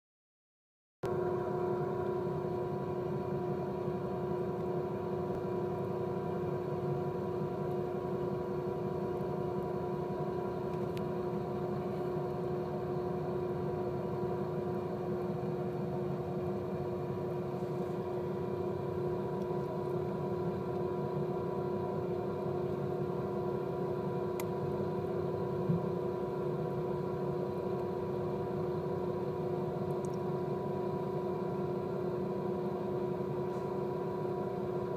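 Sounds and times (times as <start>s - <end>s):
ship engine droning hum: 1.0s - 34.9s.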